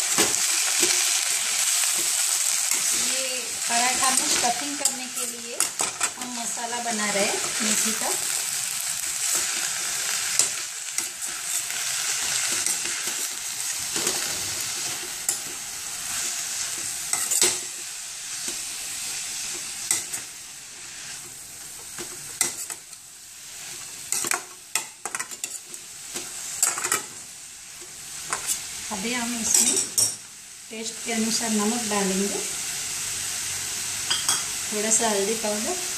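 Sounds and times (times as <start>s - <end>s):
leaves sizzling in hot oil: 0.0s - 35.9s
spoon scraping a pan: 0.1s - 27.2s, 27.8s - 30.2s, 34.0s - 34.6s.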